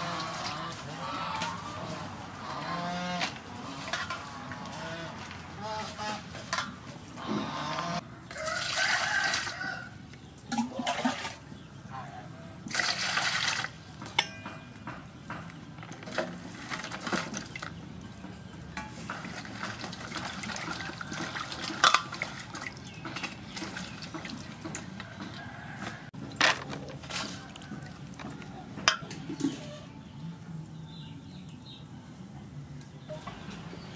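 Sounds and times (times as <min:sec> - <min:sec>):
water sloshing in a metal basin: 0:00.0 - 0:04.6, 0:05.2 - 0:14.8, 0:15.6 - 0:30.2.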